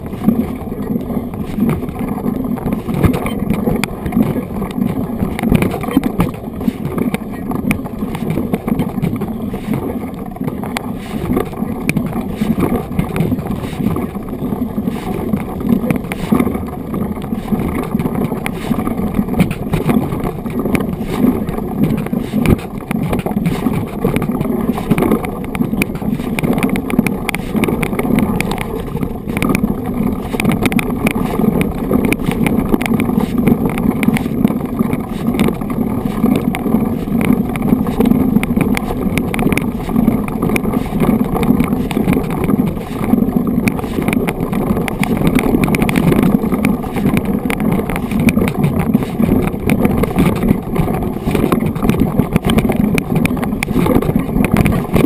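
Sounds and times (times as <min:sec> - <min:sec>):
bike tyres rolling over gravel: 0:00.0 - 0:55.0
wind on microphone: 0:00.0 - 0:55.0.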